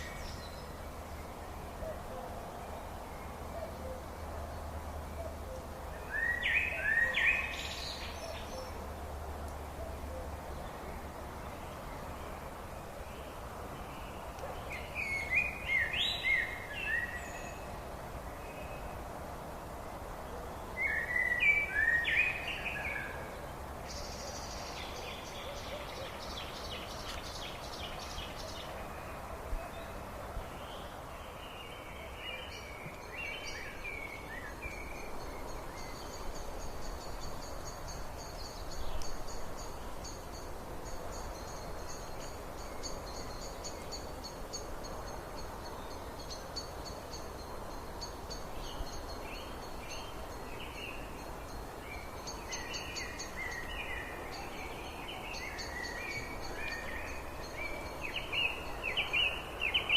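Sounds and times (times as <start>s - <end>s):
birds singing: 0.0s - 19.0s, 20.2s - 59.9s
background hiss: 0.0s - 59.9s.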